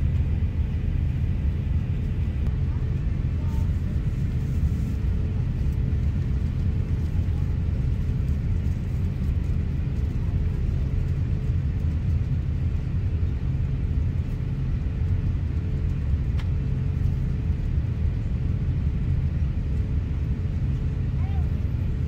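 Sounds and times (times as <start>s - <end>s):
airliner cabin rumble: 0.0s - 22.0s
faint steady hum: 0.0s - 22.0s.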